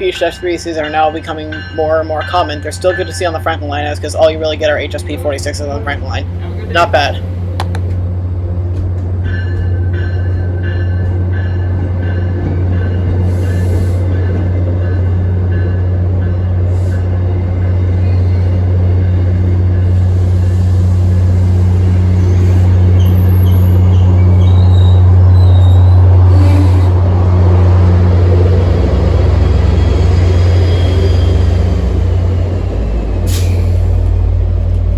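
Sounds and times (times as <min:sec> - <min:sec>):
diesel locomotive drone: 0:00.0 - 0:34.9.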